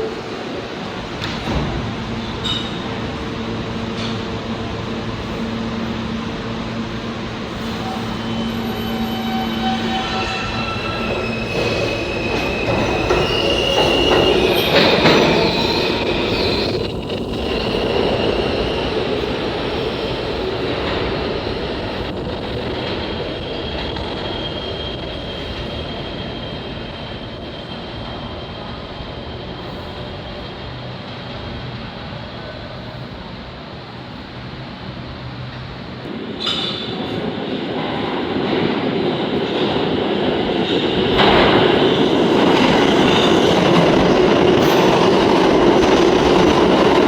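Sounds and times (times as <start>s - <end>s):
subway train running: 0.0s - 47.0s.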